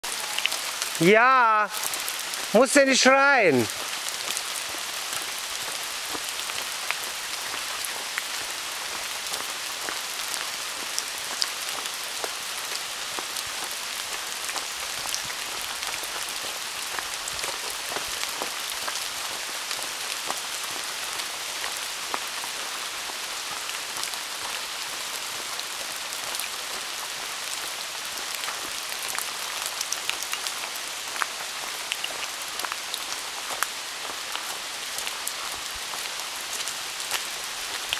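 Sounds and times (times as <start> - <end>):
rain falling on leaves: 0.0 - 37.9.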